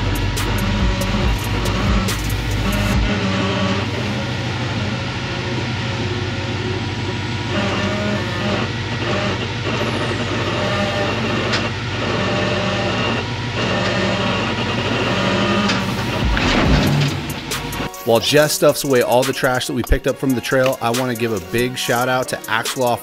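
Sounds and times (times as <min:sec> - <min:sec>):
buggy engine rumbling: 0:00.0 - 0:23.0.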